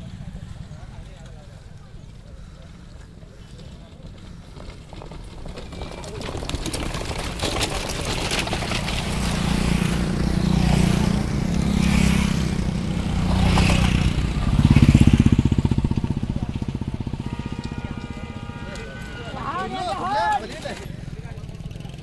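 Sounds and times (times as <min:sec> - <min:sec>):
horse hooves and carts clattering: 0:00.0 - 0:22.0
motorcycles riding past: 0:00.0 - 0:22.0.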